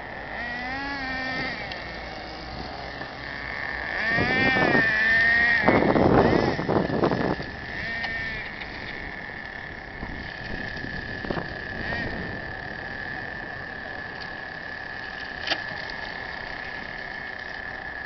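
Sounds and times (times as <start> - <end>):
electric motor high-pitched whine: 0.0 - 18.0.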